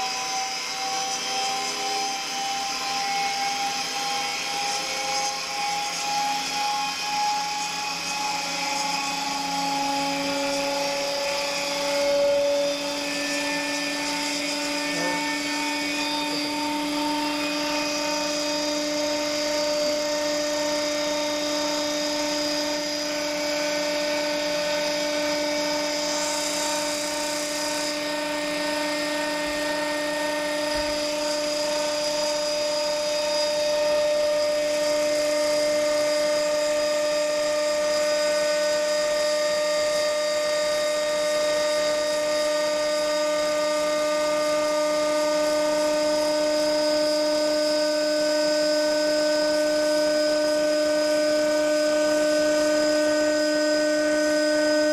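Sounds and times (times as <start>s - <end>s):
centrifuge high-pitched whine: 0.0s - 54.9s
motor hum: 0.0s - 54.9s.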